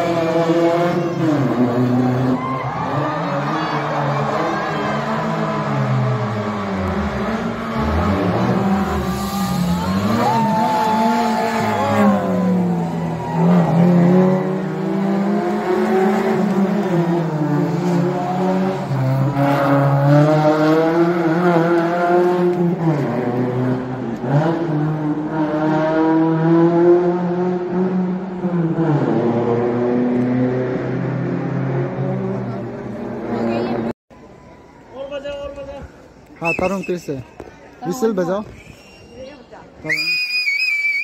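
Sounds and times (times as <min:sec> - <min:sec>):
racing cars accelerating past: 0:00.0 - 0:33.9.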